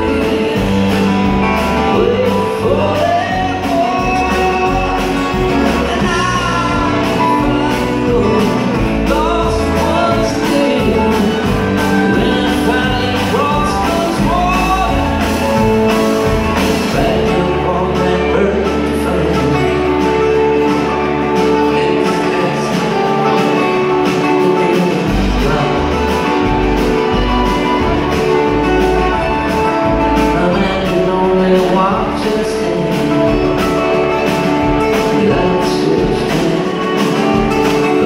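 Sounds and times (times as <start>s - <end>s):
acoustic guitars: 0.0s - 38.0s
drum kit: 0.0s - 38.0s
fiddle: 0.0s - 38.0s
lead vocal singing: 0.0s - 38.0s
upright bass: 0.0s - 38.0s.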